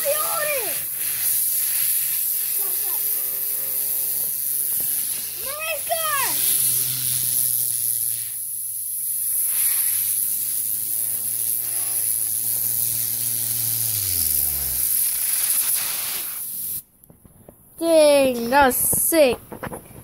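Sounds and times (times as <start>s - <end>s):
compressed air hissing: 0.0s - 16.9s.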